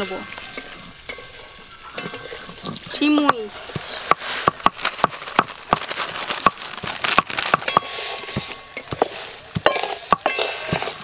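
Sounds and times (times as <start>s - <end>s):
dry noodles crackling in wok: 0.0s - 11.0s
light hiss: 0.0s - 11.0s.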